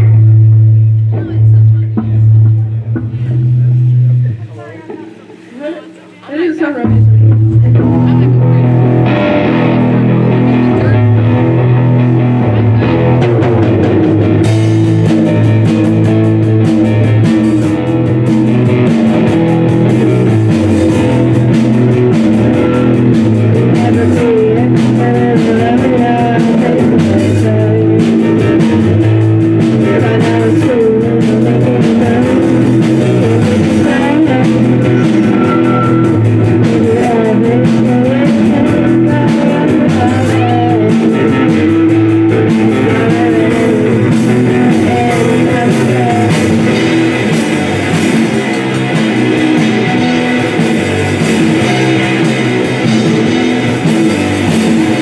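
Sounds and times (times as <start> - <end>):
bass guitar: 0.0 - 55.0
drum kit and cymbals: 0.0 - 55.0
electric guitar: 0.0 - 55.0.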